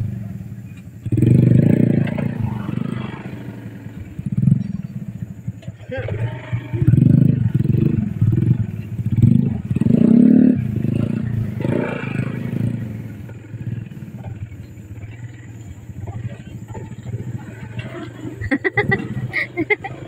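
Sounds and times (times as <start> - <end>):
small motorcycle engine revving: 0.0 - 20.0.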